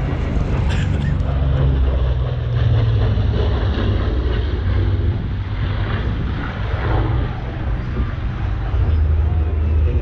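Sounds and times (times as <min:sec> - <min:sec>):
propeller aircraft flying past: 0:00.0 - 0:10.0.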